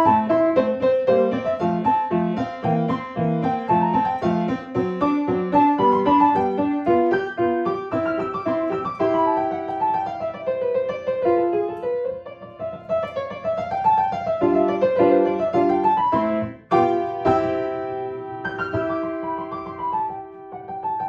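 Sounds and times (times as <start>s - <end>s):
solo piano piece: 0.0s - 21.0s.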